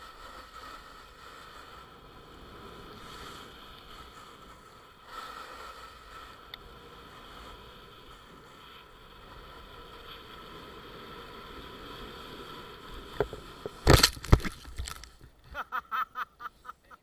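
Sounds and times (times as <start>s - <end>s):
snowboard hissing over snow: 0.0s - 13.8s.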